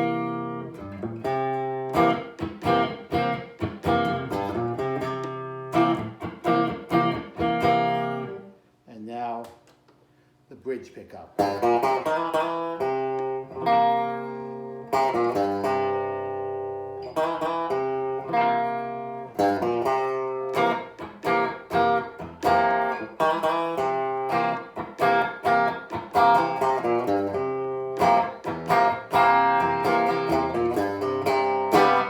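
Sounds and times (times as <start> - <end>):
electric guitar notes and chords: 0.0 - 8.5, 11.4 - 32.0.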